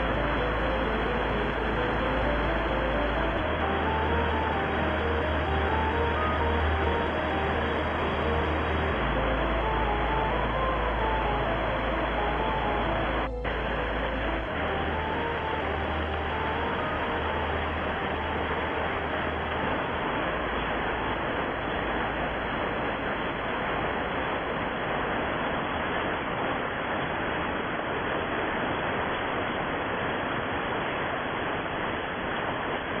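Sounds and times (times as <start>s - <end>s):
rain: 0.0s - 33.0s.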